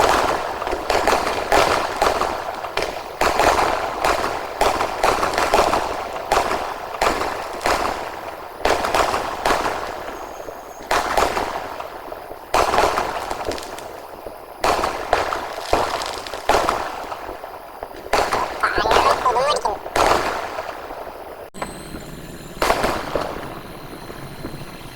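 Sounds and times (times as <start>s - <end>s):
firework bangs with crackle: 0.0s - 21.4s.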